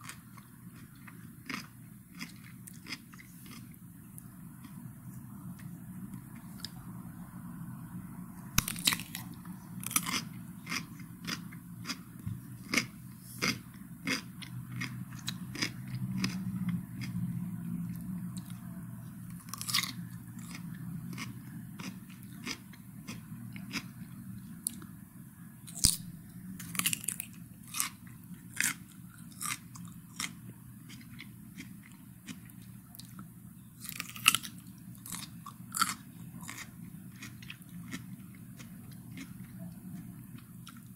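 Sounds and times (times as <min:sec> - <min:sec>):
cucumber crunching while chewed: 0:00.0 - 0:04.8, 0:08.6 - 0:17.3, 0:19.3 - 0:24.9, 0:25.7 - 0:40.9
low steady hum: 0:00.0 - 0:40.9.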